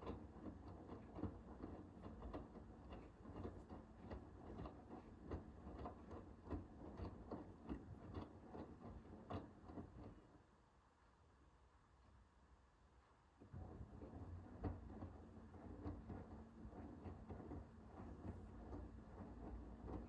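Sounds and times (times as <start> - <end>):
laundry tumbling in washing machine: 0.0 - 10.4, 13.4 - 20.0
washing machine low hum: 0.0 - 20.0.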